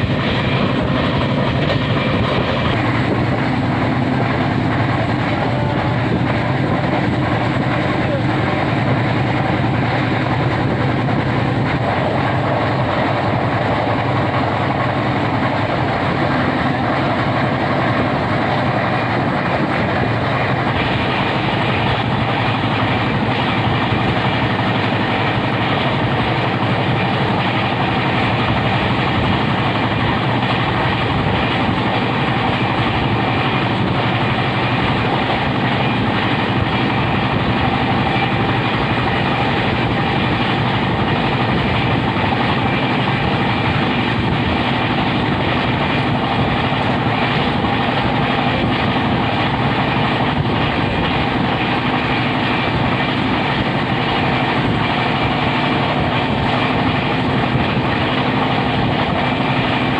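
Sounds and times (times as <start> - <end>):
train wheels rushing on rails: 0.0 - 59.9.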